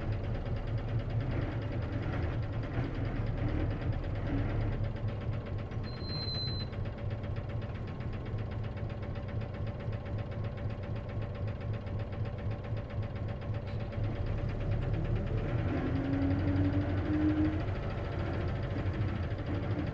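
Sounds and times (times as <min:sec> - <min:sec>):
bus engine knocking: 0:00.0 - 0:19.9.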